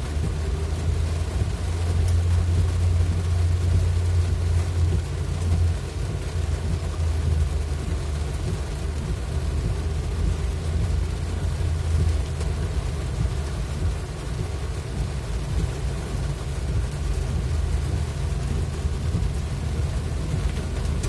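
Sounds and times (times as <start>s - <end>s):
rain hissing: 0.0s - 21.0s
road and engine rumble: 0.0s - 21.0s.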